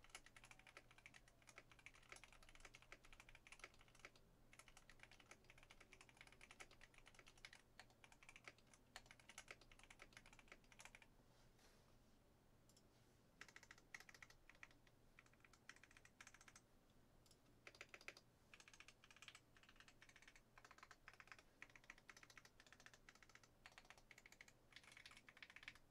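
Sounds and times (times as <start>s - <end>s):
mechanical keyboard typing: 0.0s - 11.1s, 13.4s - 16.6s, 17.6s - 25.9s.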